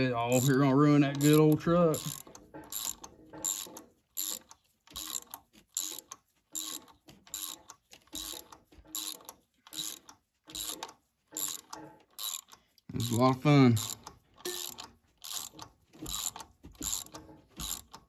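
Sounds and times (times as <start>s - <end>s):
socket ratchet clicking: 0.4s - 13.2s, 13.8s - 18.0s.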